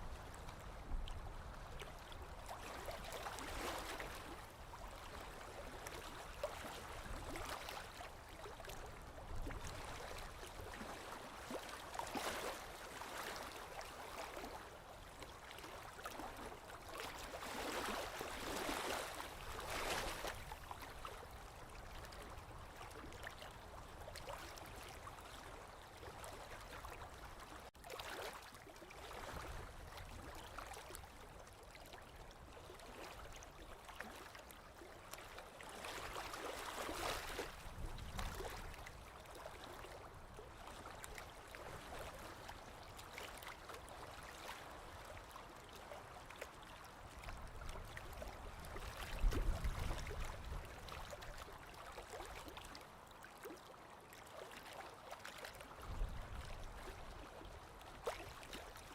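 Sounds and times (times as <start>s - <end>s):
small waves lapping on shore: 0.0s - 58.9s.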